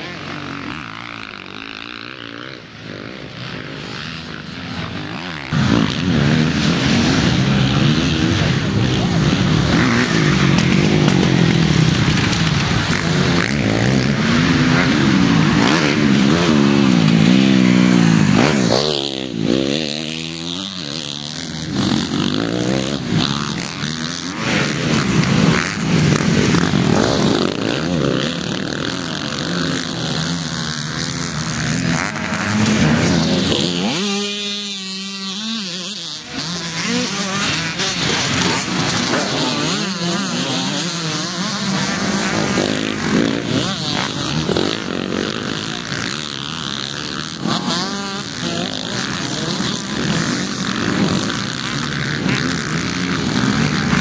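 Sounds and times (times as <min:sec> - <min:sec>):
motocross bikes revving past: 0:00.0 - 0:54.0.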